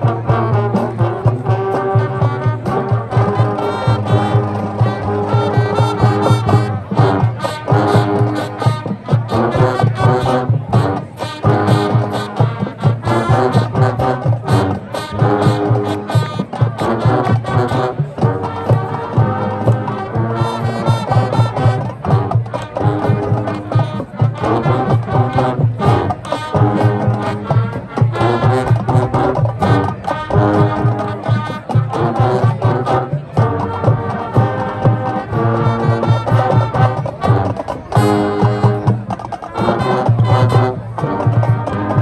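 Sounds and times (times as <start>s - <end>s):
brass section playing chords: 0.0s - 42.0s
marching drums: 0.0s - 42.0s.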